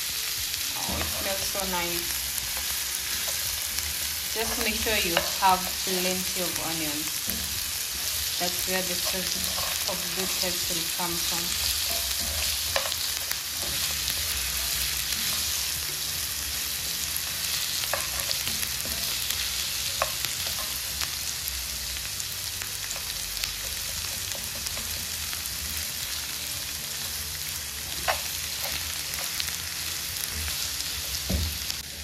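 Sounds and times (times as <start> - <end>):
meat sizzling in a frying pan: 0.0 - 32.0.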